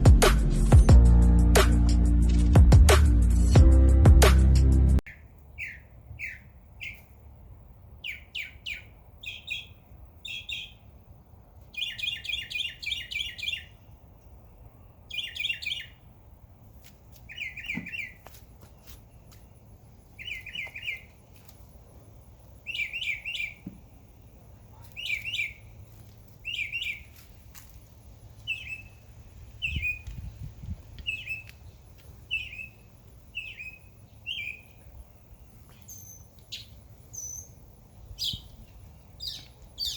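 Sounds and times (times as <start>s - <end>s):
small songbirds chirping: 5.0s - 39.9s.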